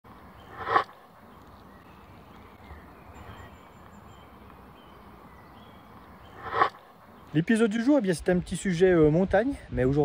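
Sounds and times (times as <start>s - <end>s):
faint background hiss: 0.1s - 10.0s.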